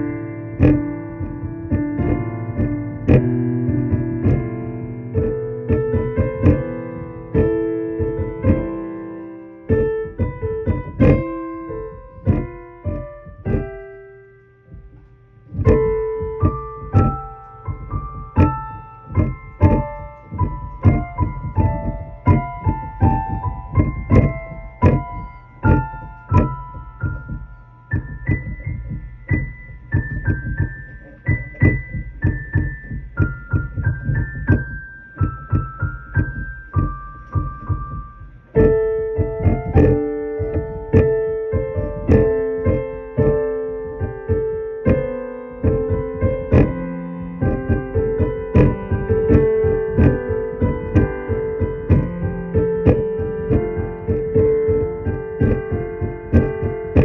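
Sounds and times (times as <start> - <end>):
electric keyboard piano notes and chords: 0.0 - 57.0.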